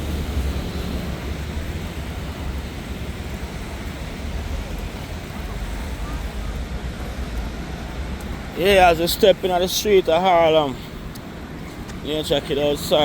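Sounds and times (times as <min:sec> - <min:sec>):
traffic going by: 0:00.0 - 0:13.0.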